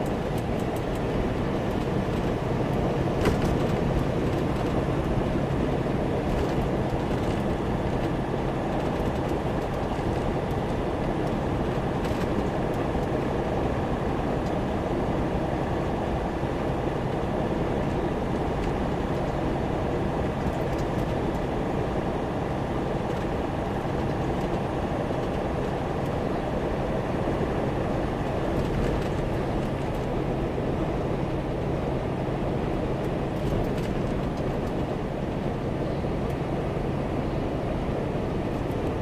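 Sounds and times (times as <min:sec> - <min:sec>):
road and tyre noise: 0:00.0 - 0:39.0
truck engine hum: 0:00.0 - 0:39.0.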